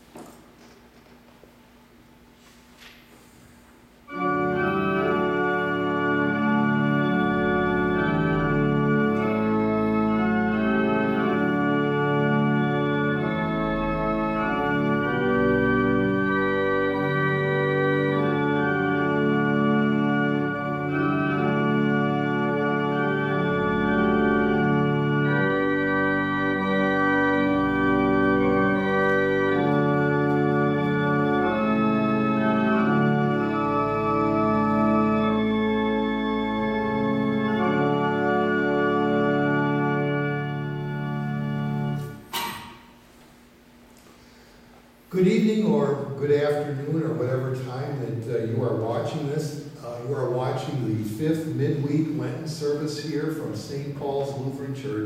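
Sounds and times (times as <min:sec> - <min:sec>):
church organ playing chords: 0:03.8 - 0:55.0.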